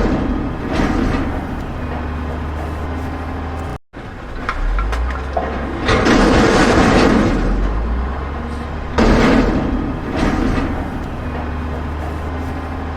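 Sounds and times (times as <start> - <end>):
diesel engine running: 0.0 - 12.9
loud clattering crashes: 0.0 - 12.9.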